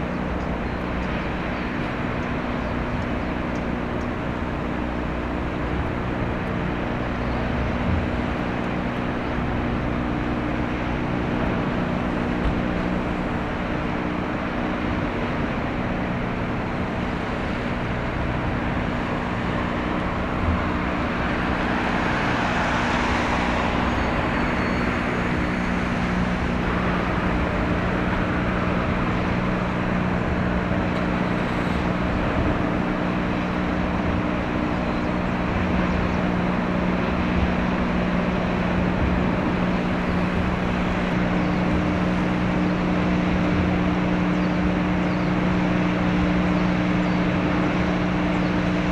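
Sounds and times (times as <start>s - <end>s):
outdoor noise: 0.0s - 48.9s
ship diesel engine drone: 0.0s - 48.9s.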